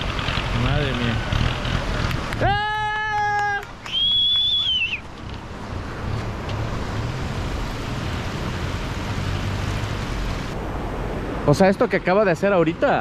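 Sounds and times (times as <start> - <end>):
river water rushing: 1.2 - 12.6.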